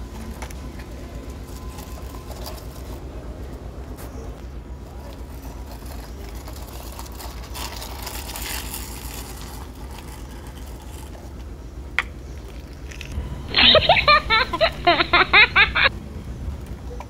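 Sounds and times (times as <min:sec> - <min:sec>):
toy vehicles scraping over soil: 0:00.0 - 0:03.2, 0:04.0 - 0:15.1
steady low hum: 0:00.0 - 0:17.0.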